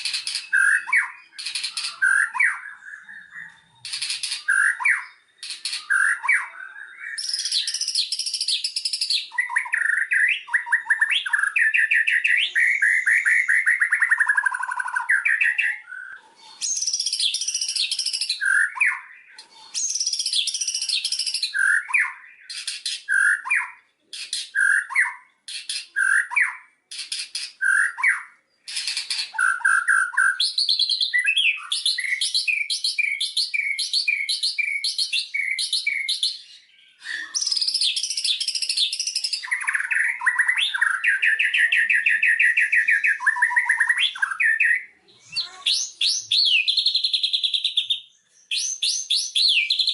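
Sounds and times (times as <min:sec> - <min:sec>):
bird singing varied song: 0:00.0 - 0:49.9.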